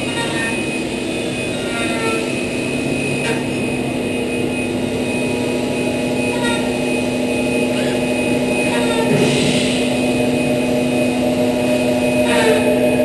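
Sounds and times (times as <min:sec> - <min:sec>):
machinery hum and whine: 0:00.0 - 0:13.0.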